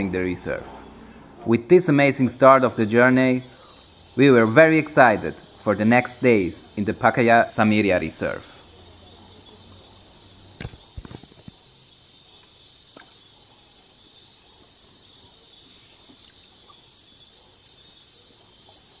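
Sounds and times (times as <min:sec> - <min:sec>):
frogs trilling: 0:00.0 - 0:19.0.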